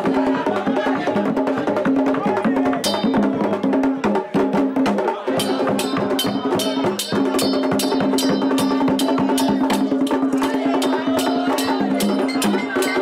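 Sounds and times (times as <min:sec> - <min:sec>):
chorus of voices singing: 0:00.0 - 0:07.4, 0:08.6 - 0:13.0
hand drums drumming: 0:00.0 - 0:13.0.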